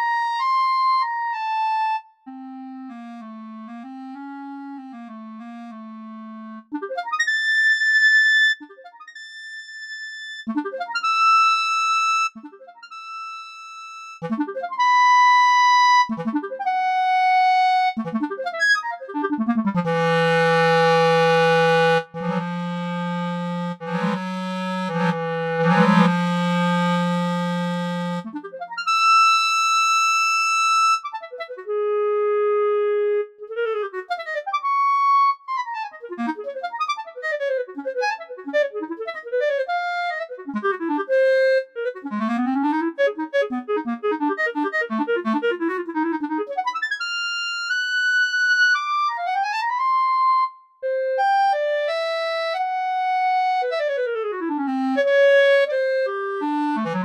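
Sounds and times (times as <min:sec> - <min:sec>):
sampled solo clarinet: 0:00.0 - 0:57.0.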